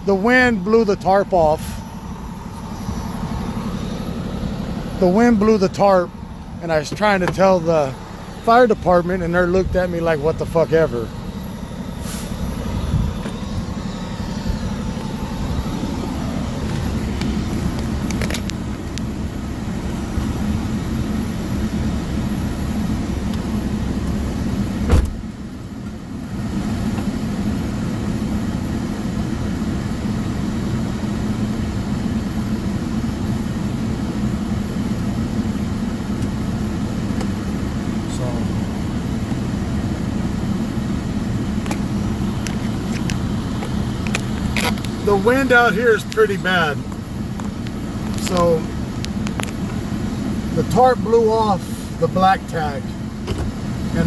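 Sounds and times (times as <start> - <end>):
vehicle rumble: 0.0 - 54.0.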